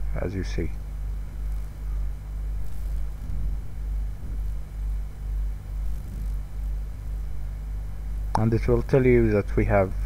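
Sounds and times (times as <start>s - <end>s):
low hum and rumble: 0.0s - 10.0s.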